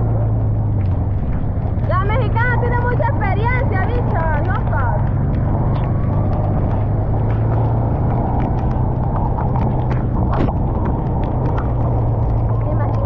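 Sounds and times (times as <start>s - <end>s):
sharp ticks: 0.0s - 13.0s
vehicle engine droning: 0.0s - 13.0s
wind and road noise: 0.0s - 13.0s.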